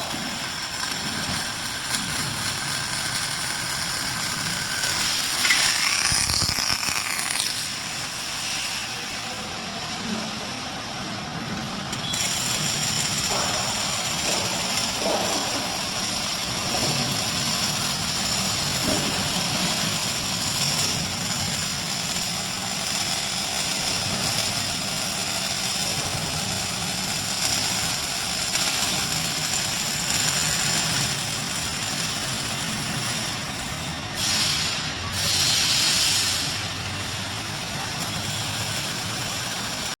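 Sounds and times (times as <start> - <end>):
welding arc hissing and crackling: 0.0 - 40.0.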